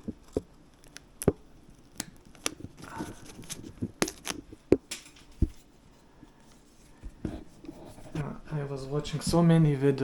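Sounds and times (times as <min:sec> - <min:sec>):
wires rustling: 0:00.0 - 0:09.6.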